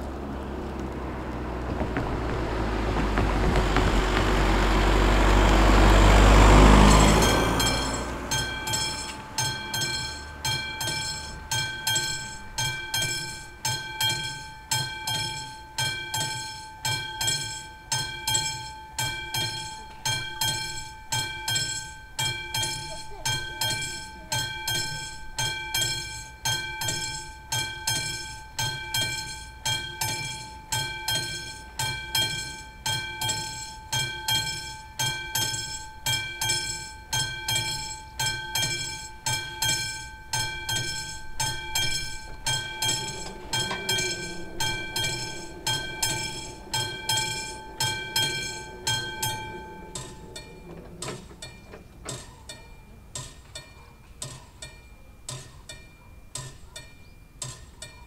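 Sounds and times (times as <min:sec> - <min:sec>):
level-crossing warning bell ringing: 0:01.8 - 0:58.0.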